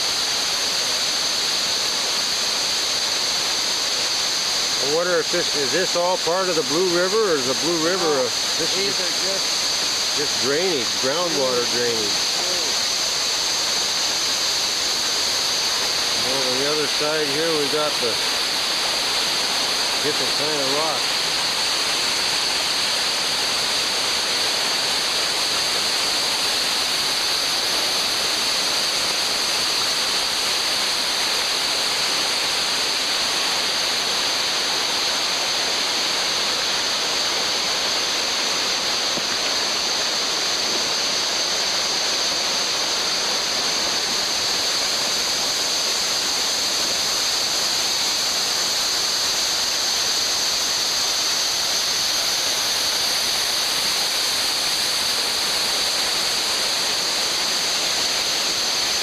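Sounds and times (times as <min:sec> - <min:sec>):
water rushing over rapids: 0:00.0 - 0:59.0.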